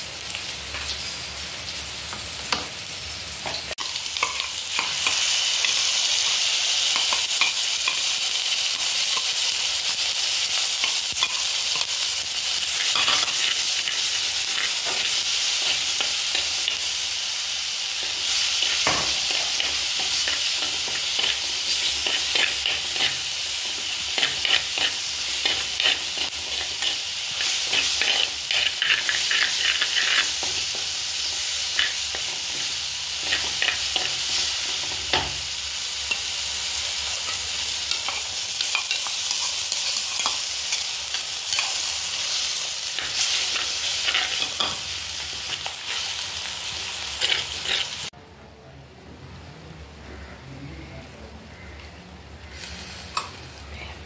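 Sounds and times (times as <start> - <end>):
masala sizzling in hot oil: 0.0 - 48.2, 52.3 - 54.0.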